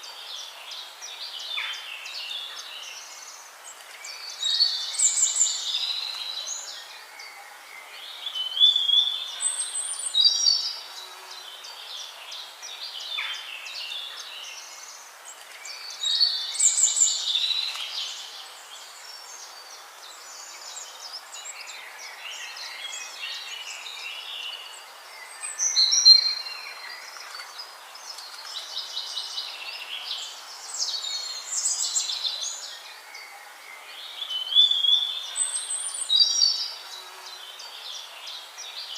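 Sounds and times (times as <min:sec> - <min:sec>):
faint steady background noise: 0:00.0 - 0:38.9
songbird singing: 0:00.0 - 0:38.9.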